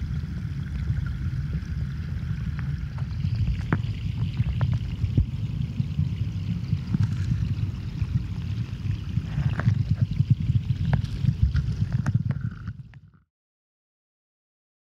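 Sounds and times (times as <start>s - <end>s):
underwater river current rumble: 0.0s - 13.2s.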